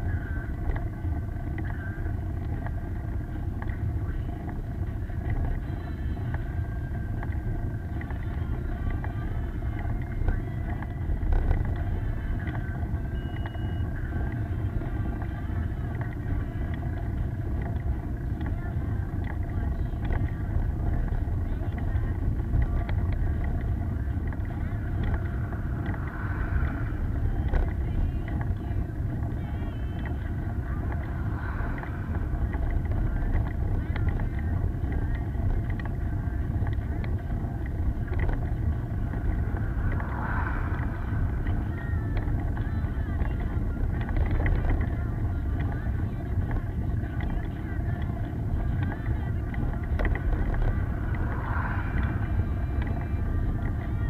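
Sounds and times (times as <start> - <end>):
faint steady tones: 0.0 - 54.0
wind and road noise: 0.0 - 54.0.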